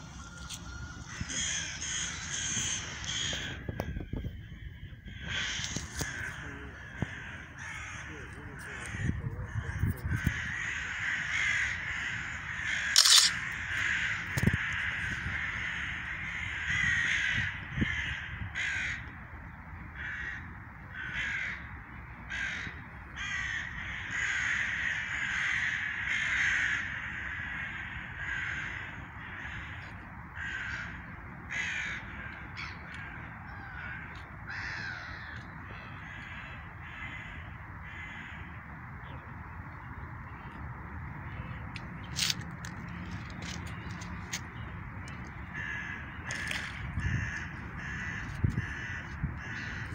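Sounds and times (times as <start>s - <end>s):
birds calling harshly: 0.0s - 19.1s, 20.0s - 49.9s.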